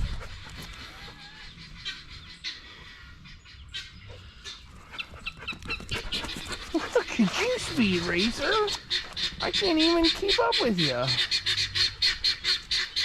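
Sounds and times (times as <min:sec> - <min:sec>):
faint poultry calls: 0:00.0 - 0:13.0.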